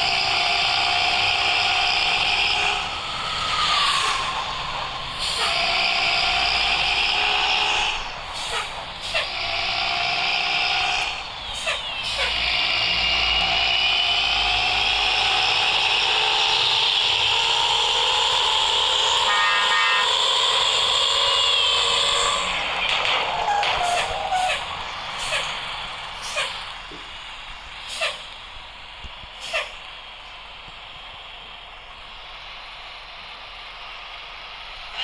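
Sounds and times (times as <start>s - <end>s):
bus engine whine: 0.0s - 35.0s.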